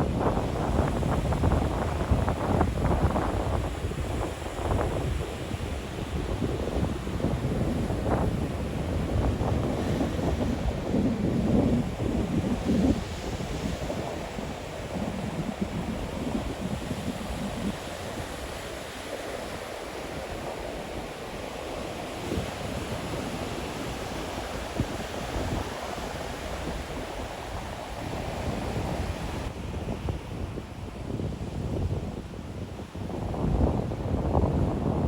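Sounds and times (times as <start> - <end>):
surf washing onto beach: 0.0 - 35.0
wind rumbling on microphone: 0.0 - 35.0.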